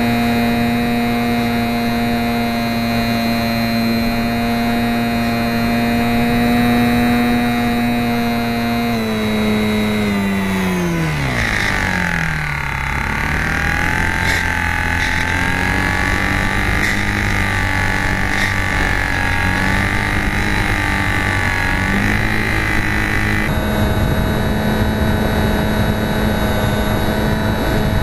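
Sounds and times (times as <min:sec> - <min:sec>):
electric motor and propeller whining: 0:00.0 - 0:28.0.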